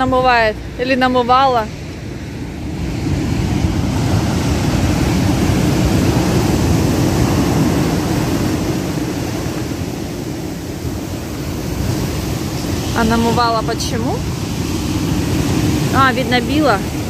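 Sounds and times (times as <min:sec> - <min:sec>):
storm surf breaking: 0:00.0 - 0:17.0.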